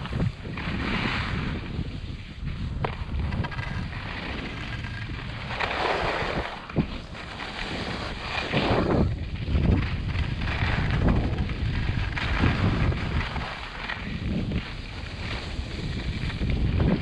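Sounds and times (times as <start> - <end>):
skis swishing through snow: 0.0 - 17.0
wind rumbling on microphone: 0.0 - 17.0.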